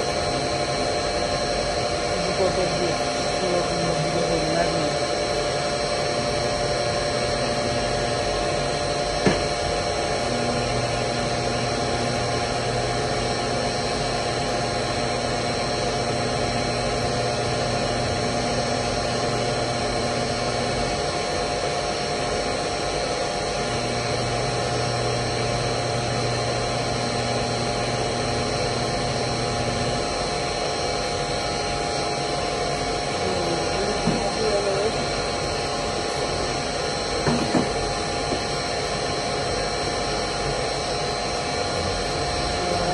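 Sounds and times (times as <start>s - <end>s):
juicer motor humming: 0.0s - 42.9s
steady machine drone: 0.0s - 42.9s.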